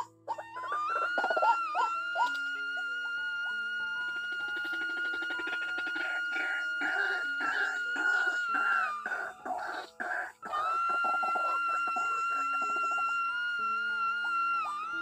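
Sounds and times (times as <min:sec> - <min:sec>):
bird harsh repeated calls: 0:00.0 - 0:13.6
background music held tone: 0:00.0 - 0:15.0.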